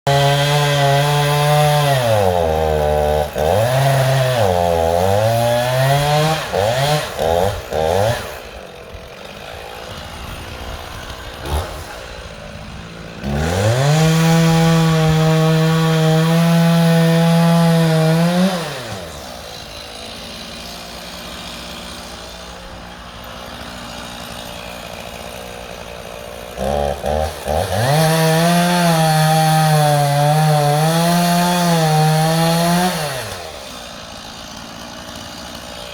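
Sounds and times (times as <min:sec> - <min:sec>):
chainsaw revving: 0:00.0 - 0:35.9.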